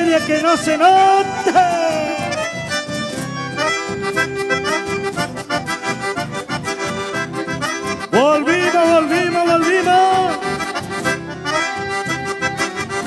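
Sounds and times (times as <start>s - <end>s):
accordion melody: 0.0s - 13.0s
guitar accompaniment: 0.0s - 13.0s.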